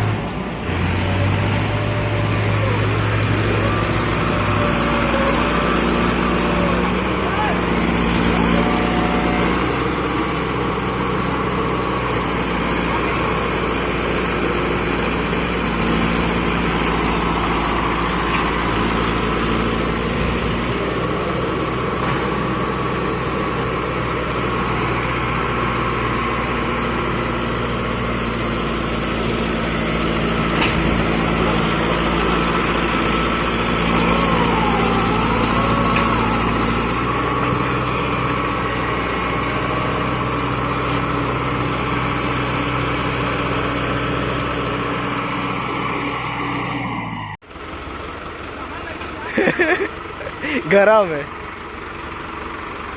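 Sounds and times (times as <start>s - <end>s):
diesel tractor engines under load: 0.0s - 52.9s.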